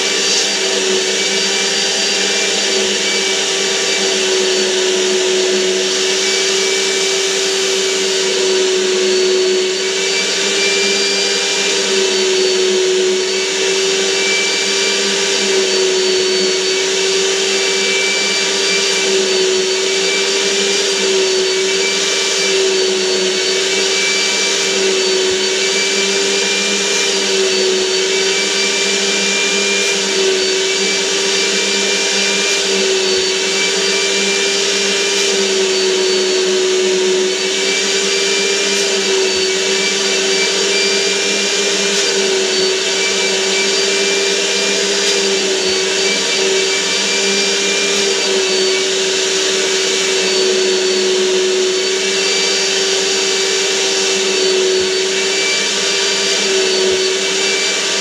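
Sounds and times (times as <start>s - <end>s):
vacuum cleaner motor whine: 0.0s - 58.0s.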